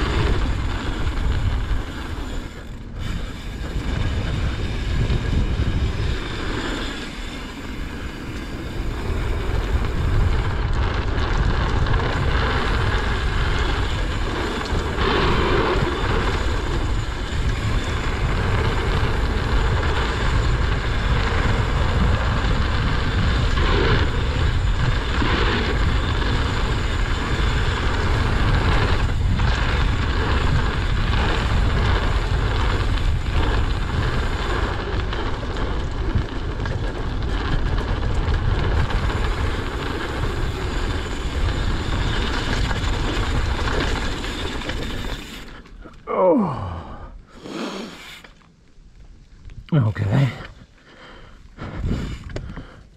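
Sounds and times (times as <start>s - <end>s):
wind buffeting microphone: 0.0s - 45.6s, 49.2s - 52.9s
tyres rolling on dirt: 0.0s - 47.0s
bike rattling over bumps: 0.0s - 52.9s.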